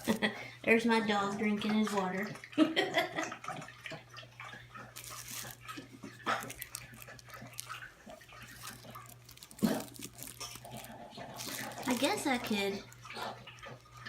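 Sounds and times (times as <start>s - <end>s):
dog lapping water: 0.0s - 14.0s.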